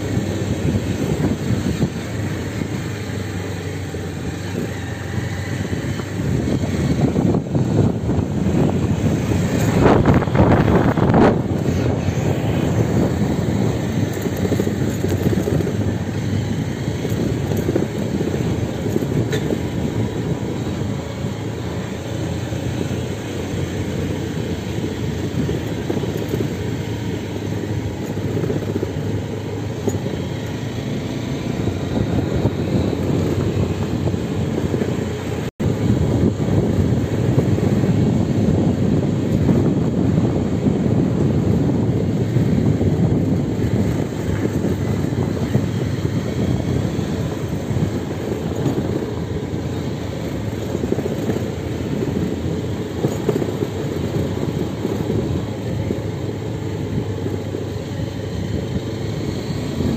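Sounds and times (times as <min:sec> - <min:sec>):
vehicle driving on gravel: 0:00.0 - 0:59.9.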